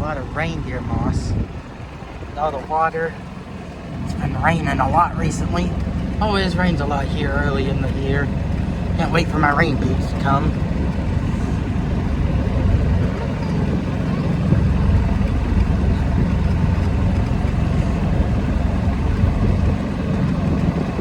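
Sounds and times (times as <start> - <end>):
small vehicle rumbling: 0.0 - 21.0.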